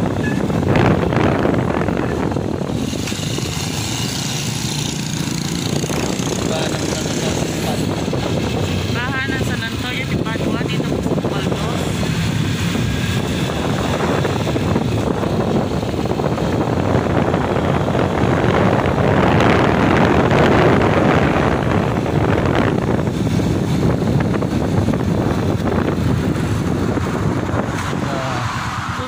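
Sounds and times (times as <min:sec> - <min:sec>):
motorcycle engine: 0:00.0 - 0:29.0
road noise: 0:00.0 - 0:29.0
wind rushing over microphone: 0:00.0 - 0:29.0.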